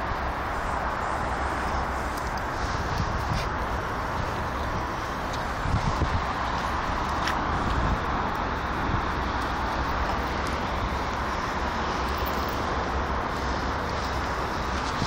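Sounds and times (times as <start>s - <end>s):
distant road traffic hiss: 0.0s - 15.0s
wind rumbling on microphone: 0.0s - 15.0s.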